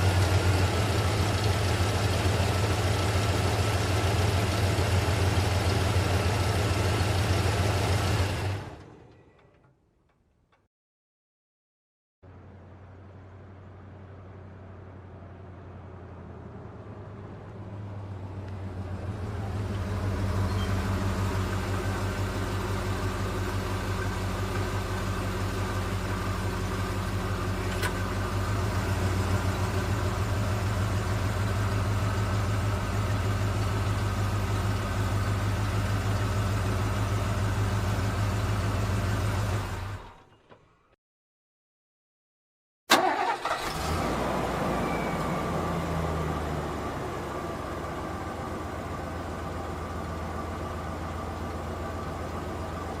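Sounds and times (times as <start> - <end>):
vehicle engine idling: 0.0 - 9.4, 12.2 - 40.1, 42.9 - 53.0.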